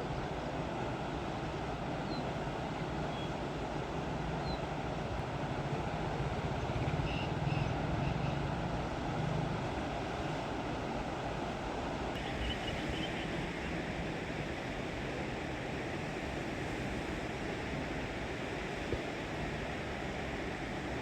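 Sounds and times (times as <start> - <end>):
fast river water rushing: 0.0 - 21.0.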